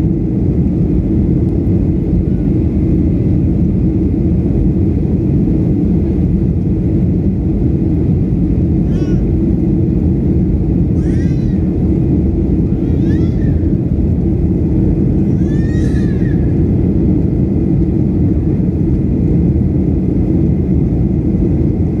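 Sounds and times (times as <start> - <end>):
jet engine drone in cabin: 0.0 - 22.0.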